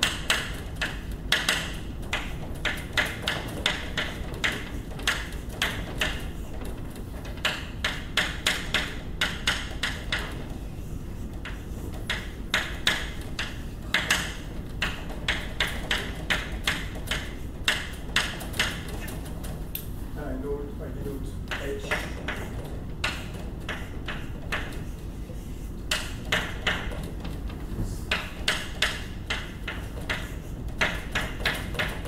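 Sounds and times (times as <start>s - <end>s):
chalk tapping on a blackboard: 0.0s - 19.1s, 21.5s - 27.1s, 28.1s - 32.0s.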